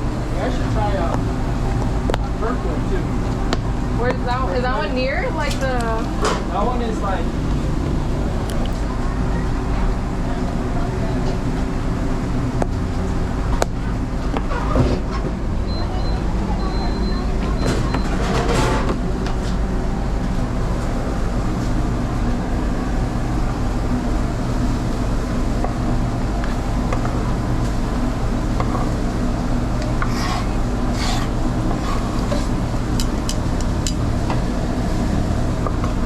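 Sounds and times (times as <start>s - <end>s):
low machine hum: 0.0s - 36.0s.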